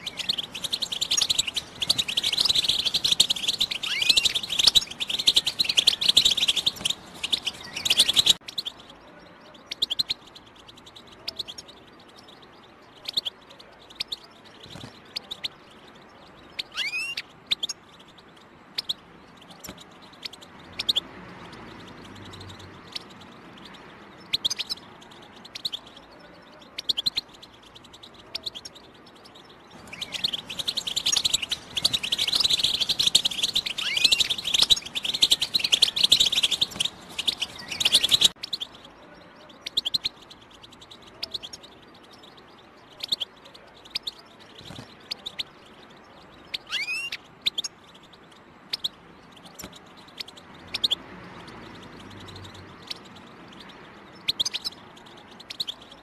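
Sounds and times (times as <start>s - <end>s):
bird twittering song: 0.0s - 56.0s
short bird chirps and calls: 0.0s - 56.0s.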